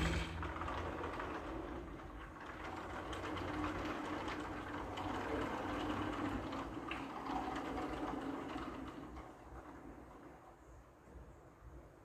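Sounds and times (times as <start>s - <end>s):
glass doors rolling on track: 0.0s - 10.6s.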